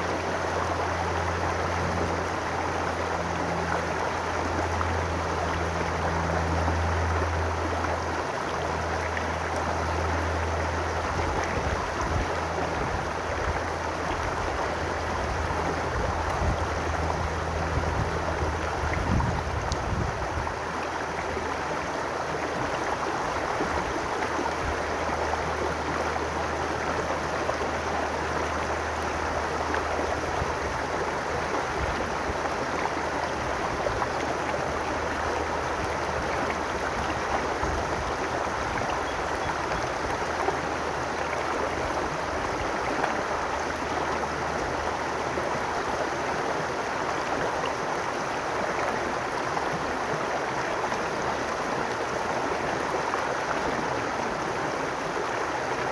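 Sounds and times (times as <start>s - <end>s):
brook water gurgling: 0.0s - 55.9s.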